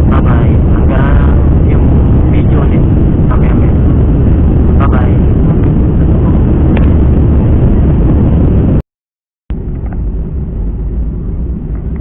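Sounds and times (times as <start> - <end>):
airliner engine rumble: 0.0 - 8.8, 9.5 - 12.0.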